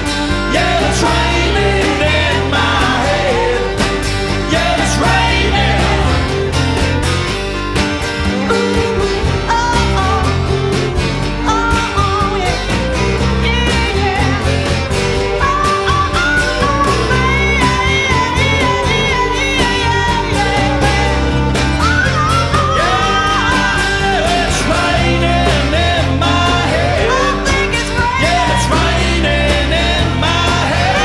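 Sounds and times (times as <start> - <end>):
person singing: 0.0 - 6.7, 8.3 - 31.0
country-rock band playing: 0.0 - 31.0
strummed acoustic guitar: 0.0 - 31.0.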